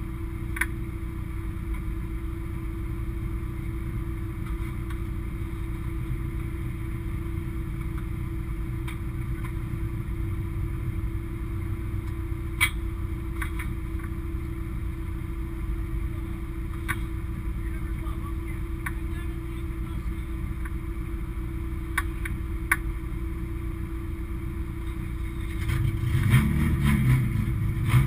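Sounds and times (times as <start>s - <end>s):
race car engine idling: 0.0s - 26.3s.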